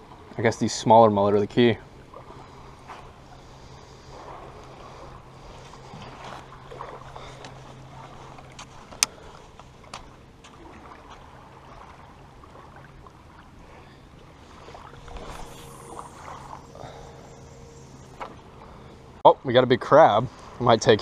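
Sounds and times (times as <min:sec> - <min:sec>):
light wind: 0:00.0 - 0:21.0
low steady hum: 0:00.0 - 0:21.0
water lapping at a shoreline: 0:00.0 - 0:21.0.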